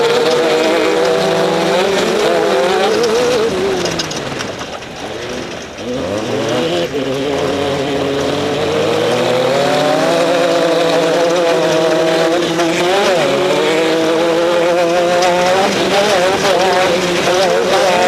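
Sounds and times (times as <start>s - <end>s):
race vehicle engine revving: 0.0s - 18.0s.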